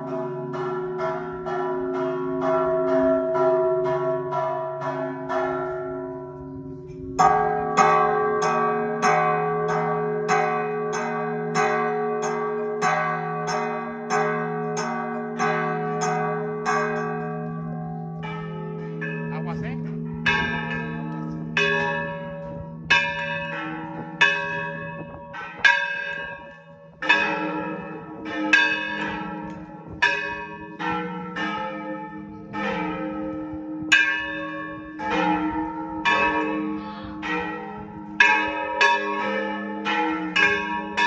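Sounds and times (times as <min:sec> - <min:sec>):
church bell ringing: 0:00.0 - 0:41.0
deeper bell tone: 0:00.0 - 0:41.0.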